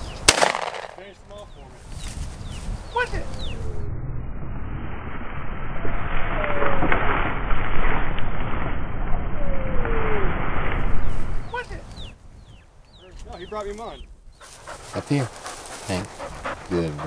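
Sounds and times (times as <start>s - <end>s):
wind buffeting microphone: 1.0s - 17.0s.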